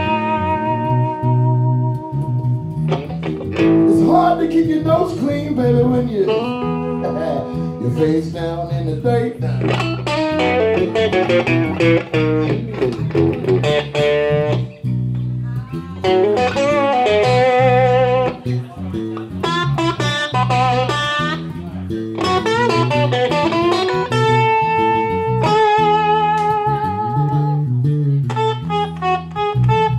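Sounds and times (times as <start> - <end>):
electric bass: 0.0 - 29.9
electric guitar lead lines: 0.0 - 29.9.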